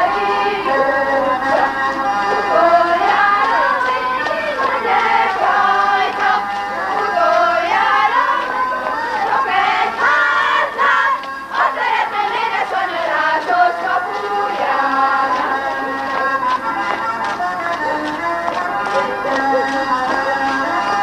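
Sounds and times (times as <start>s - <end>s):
accordion: 0.0s - 21.0s
group singing folk song: 0.0s - 21.0s.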